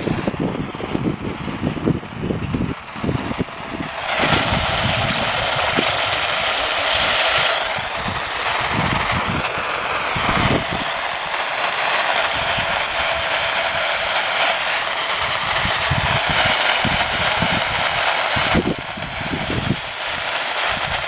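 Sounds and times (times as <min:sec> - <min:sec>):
muffled fluttering radio audio: 0:00.0 - 0:17.8
radio static hiss: 0:03.7 - 0:21.0.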